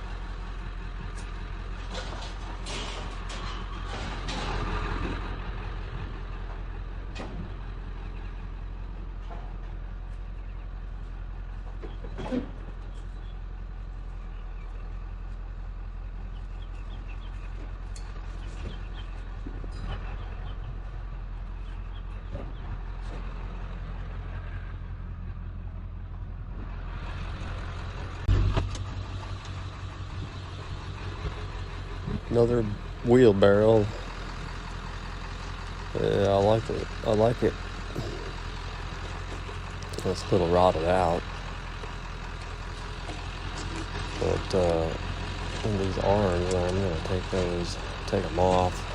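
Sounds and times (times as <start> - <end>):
truck engine and road hum: 0.0 - 48.9.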